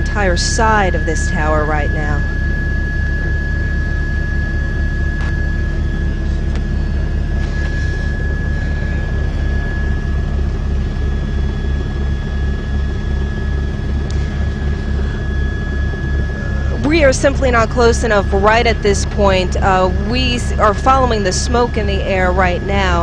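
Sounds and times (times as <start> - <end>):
helicopter rotor throb: 0.0 - 23.0
turbine engine whine: 0.0 - 23.0.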